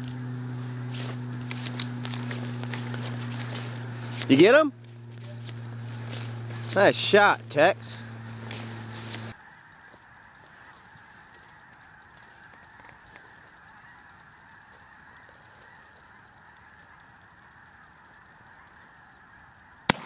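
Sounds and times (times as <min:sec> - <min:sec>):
distant geese honking: 0:00.0 - 0:20.0.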